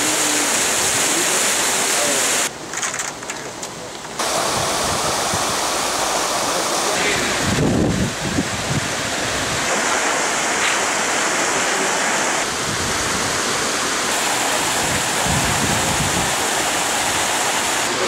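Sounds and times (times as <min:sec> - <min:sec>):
water rushing over rocks: 0:00.0 - 0:02.6, 0:04.2 - 0:18.0.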